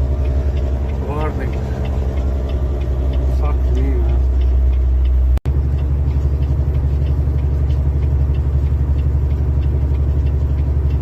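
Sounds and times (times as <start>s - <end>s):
truck engine rumbling in cab: 0.0s - 11.0s.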